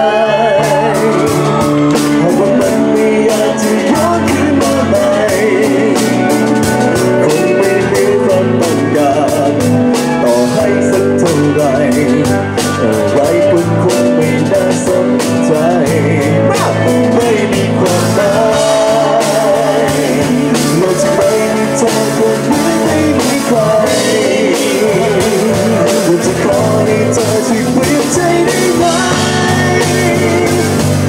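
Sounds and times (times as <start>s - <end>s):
drums keeping a steady beat: 0.0s - 31.0s
electric guitar and bass: 0.0s - 31.0s
person singing: 0.0s - 31.0s.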